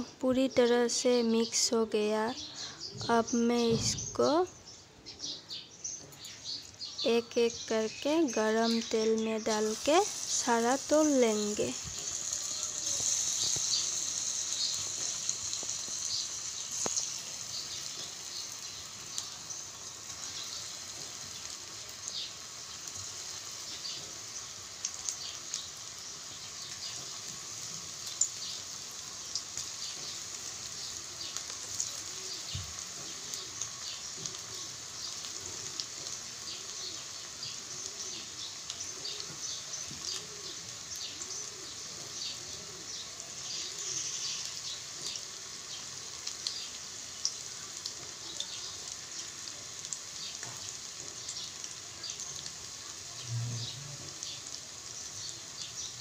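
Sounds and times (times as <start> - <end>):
hot oil sizzling and crackling: 0.0 - 56.0.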